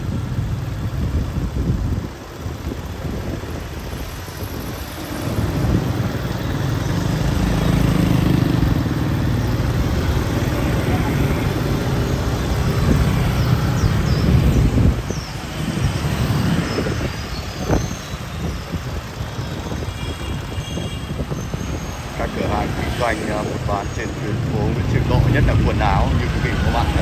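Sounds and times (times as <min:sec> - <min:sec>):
motor vehicle engines running: 0:00.0 - 0:27.0.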